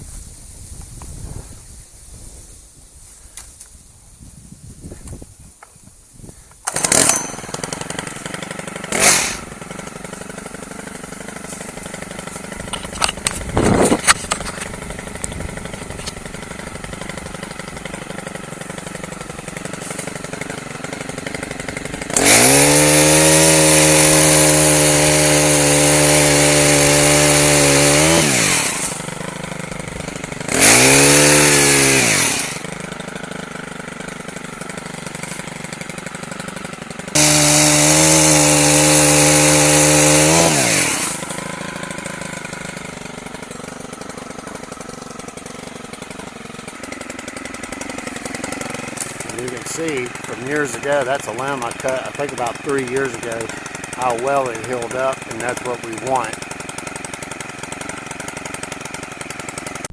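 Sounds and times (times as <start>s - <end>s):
chainsaw idling and revving: 6.5s - 59.9s.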